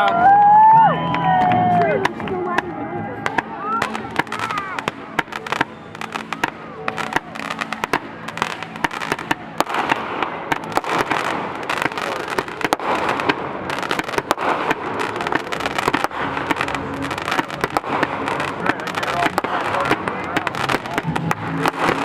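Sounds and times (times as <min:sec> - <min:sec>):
fireworks crackling: 0:00.0 - 0:22.0
fireworks bangs and pops: 0:01.2 - 0:22.0.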